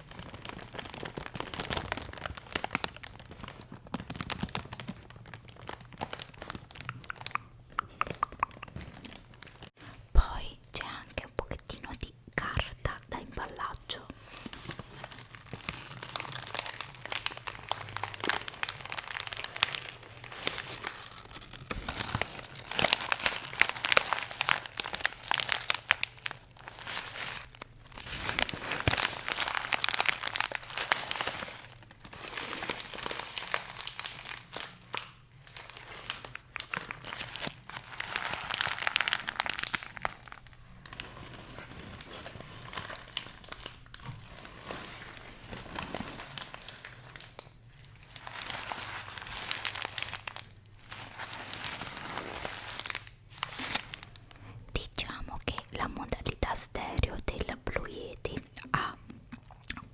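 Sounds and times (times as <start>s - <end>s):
packaging crinkling and rustling: 0.0s - 7.5s, 8.6s - 10.0s, 13.6s - 54.5s.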